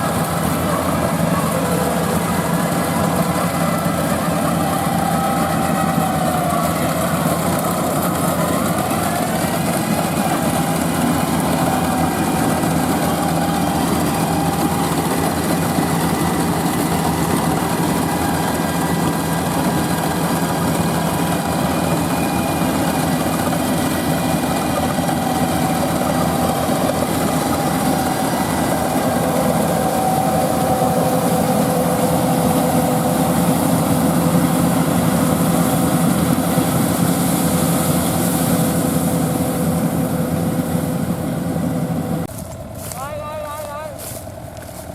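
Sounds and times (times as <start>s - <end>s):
combine harvester droning: 0.0s - 44.9s.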